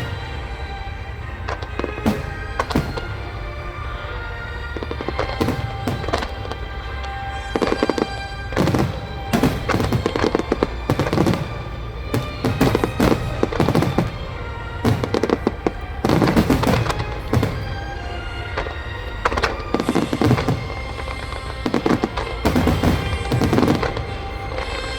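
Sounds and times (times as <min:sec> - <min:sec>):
fireworks crackling: 0:00.0 - 0:24.9
music playing: 0:00.0 - 0:24.9.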